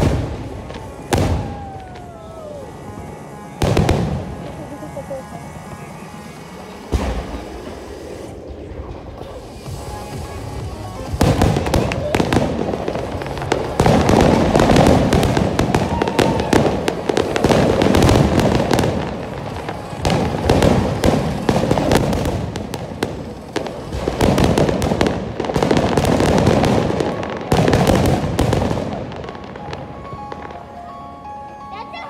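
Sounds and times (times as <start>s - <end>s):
fireworks booming and crackling: 0.0s - 31.3s.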